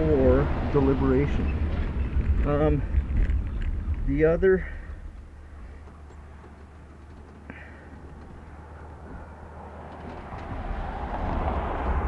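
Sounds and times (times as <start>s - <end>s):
wind rumble on microphone: 0.0s - 7.4s, 8.0s - 12.0s
passing traffic: 0.0s - 12.0s.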